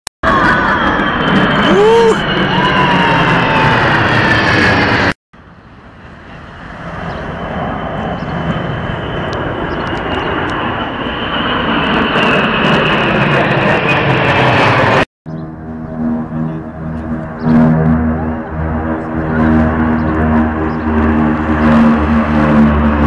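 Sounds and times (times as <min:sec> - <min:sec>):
military aircraft engine roar: 0:00.2 - 0:23.0.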